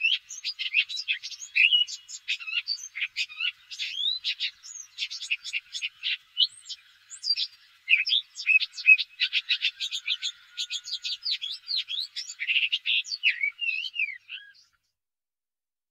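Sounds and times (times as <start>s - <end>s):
bird singing rapid chirps: 0.0s - 14.8s.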